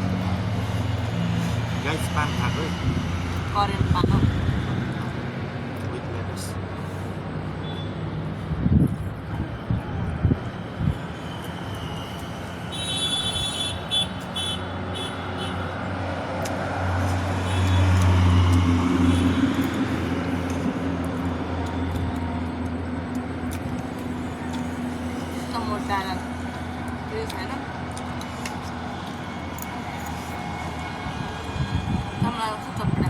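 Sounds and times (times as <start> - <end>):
vehicle engine passing by: 0.0 - 10.9, 15.6 - 33.0.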